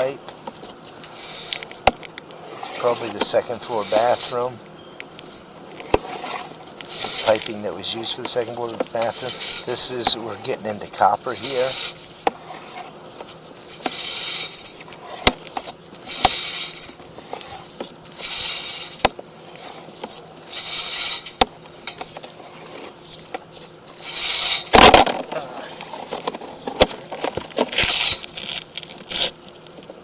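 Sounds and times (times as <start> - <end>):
cable scraping through pipe: 0.9 - 1.8, 2.4 - 4.6, 5.2 - 29.4.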